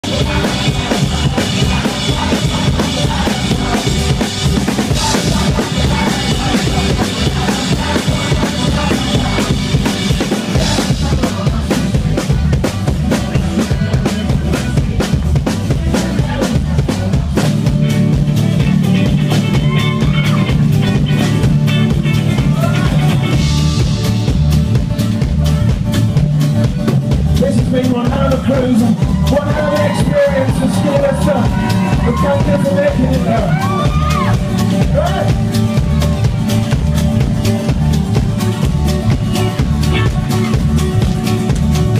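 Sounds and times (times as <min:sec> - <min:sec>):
drum kit beat: 0:00.0 - 0:41.9.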